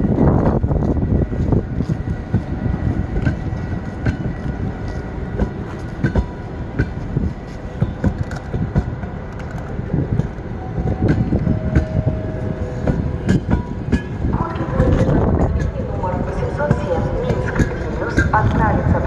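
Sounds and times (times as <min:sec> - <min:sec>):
train rumble: 0:00.0 - 0:19.0
train wheel clacks: 0:00.4 - 0:19.0.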